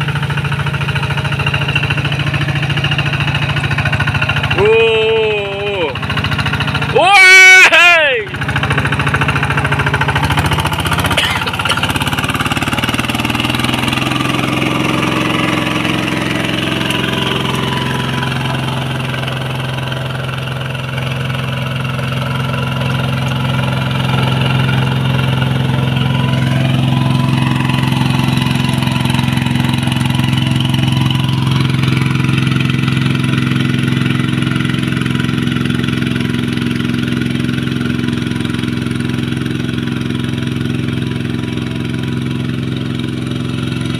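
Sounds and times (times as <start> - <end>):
diesel engine running: 0.0 - 43.9
wheels churning through water: 8.3 - 43.9.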